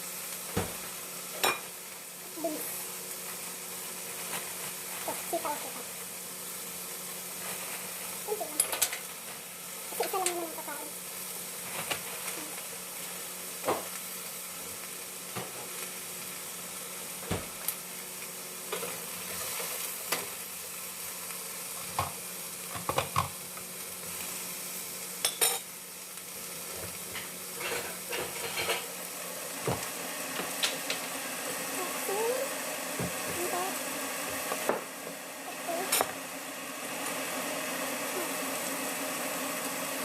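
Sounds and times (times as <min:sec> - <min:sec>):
vegetables sizzling in a pan: 0:00.0 - 0:40.0.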